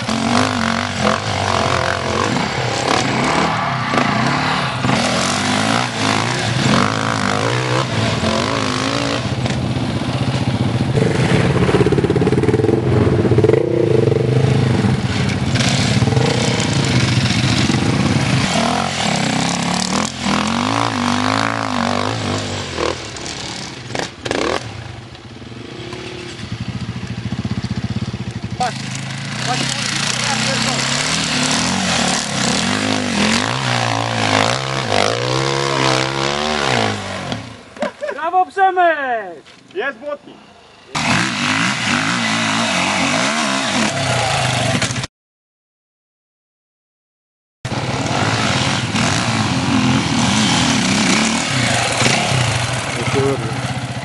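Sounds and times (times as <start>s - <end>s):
motorcycle engines revving hard: 0.0s - 38.0s, 40.8s - 45.1s, 47.7s - 54.0s.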